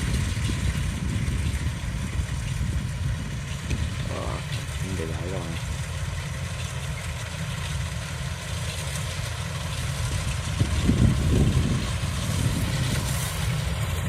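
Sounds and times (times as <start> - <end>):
combine harvester engine rumble: 0.0 - 14.0.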